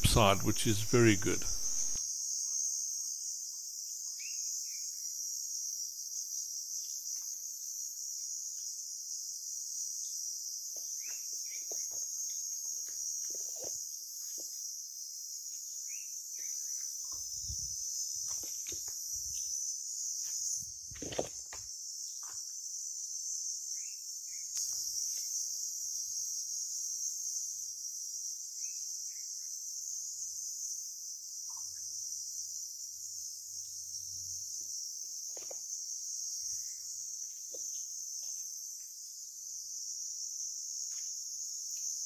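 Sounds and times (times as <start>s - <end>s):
insects chirring: 0.0s - 42.0s.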